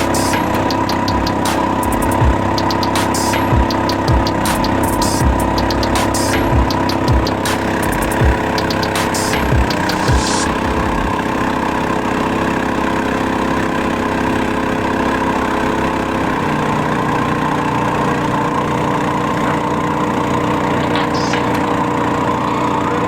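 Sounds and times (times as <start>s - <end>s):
boat motor running: 0.0s - 23.0s.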